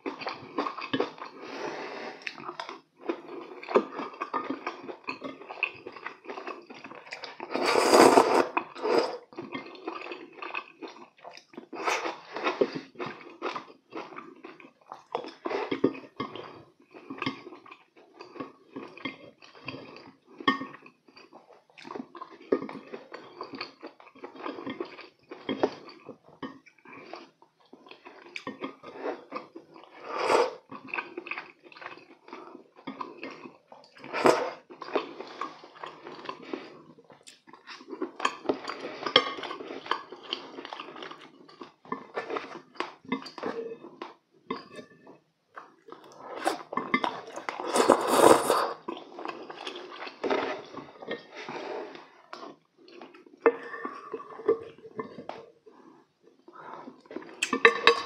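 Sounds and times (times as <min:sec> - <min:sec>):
close chewing: 0:00.0 - 0:01.6, 0:02.2 - 0:30.0, 0:30.6 - 0:44.9, 0:45.5 - 0:57.6.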